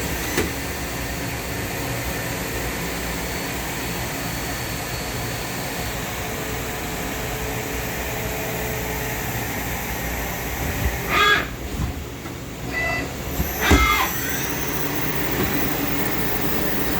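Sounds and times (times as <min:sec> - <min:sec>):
shop machinery humming: 0:00.0 - 0:16.9.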